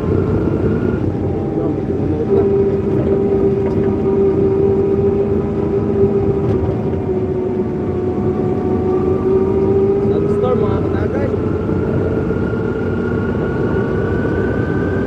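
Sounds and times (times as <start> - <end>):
rough engine noise: 0.0 - 15.0
strong steady whine: 0.0 - 15.0.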